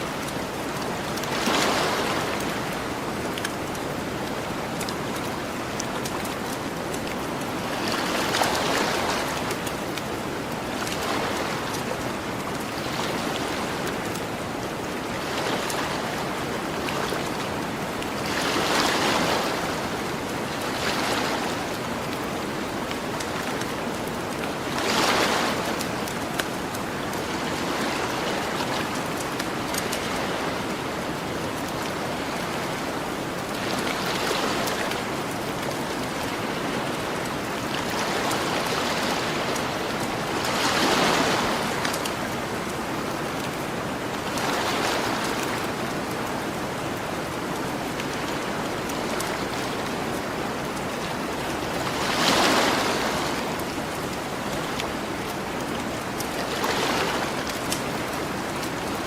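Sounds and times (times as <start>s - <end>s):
faint campfire crackles: 0.0s - 59.0s
ocean waves washing on shore: 0.0s - 59.0s.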